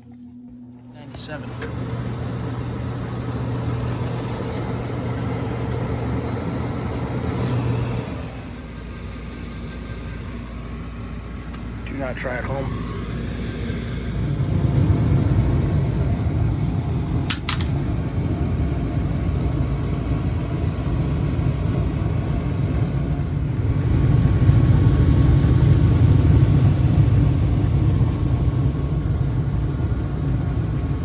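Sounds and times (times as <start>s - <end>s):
gas furnace low rumble: 0.0s - 31.0s.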